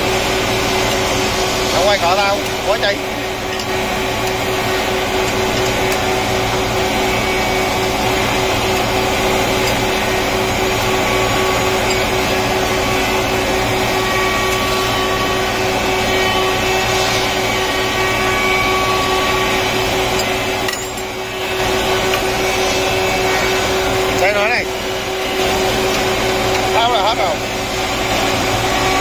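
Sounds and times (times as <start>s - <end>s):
wood planer humming and whining: 0.0s - 29.0s.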